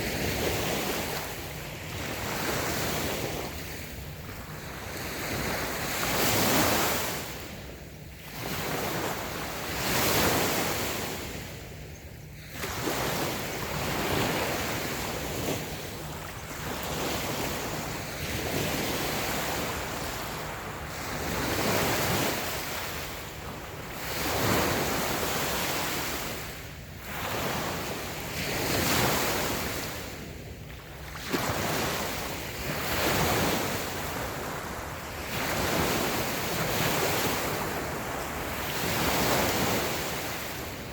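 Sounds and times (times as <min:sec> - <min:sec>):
waves washing onto sand: 0:00.0 - 0:07.6, 0:12.2 - 0:40.9.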